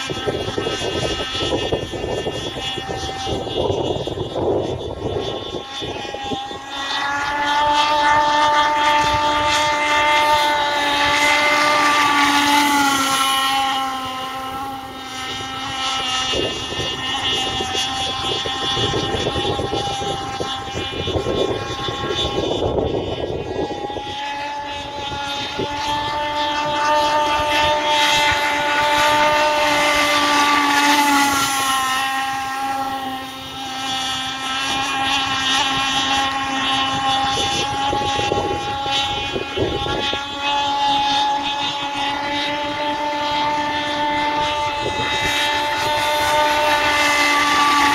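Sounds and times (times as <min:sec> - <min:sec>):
high-revving two-stroke engine: 0:00.0 - 0:47.9.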